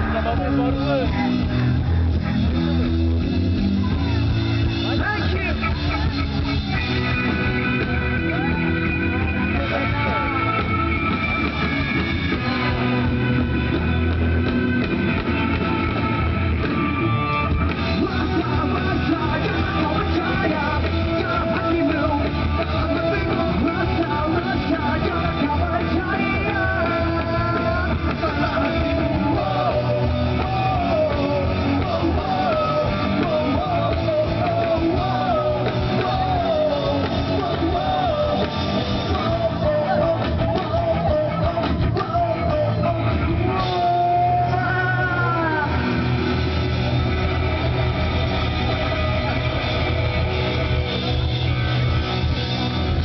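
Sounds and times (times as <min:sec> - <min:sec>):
electric guitar: 0:00.0 - 0:53.0
live rock band: 0:00.0 - 0:53.0
person singing: 0:04.9 - 0:52.7.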